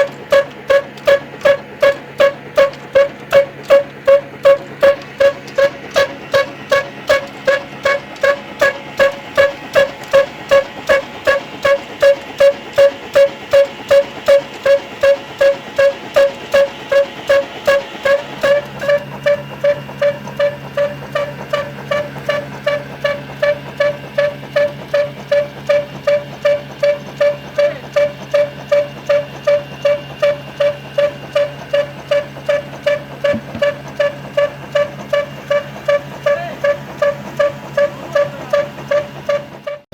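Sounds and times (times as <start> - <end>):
stationary engine clanking: 0.0 - 39.9.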